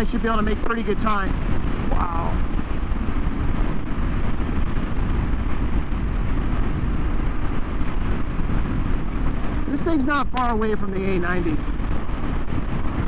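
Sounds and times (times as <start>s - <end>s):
wind rushing: 0.0s - 13.0s.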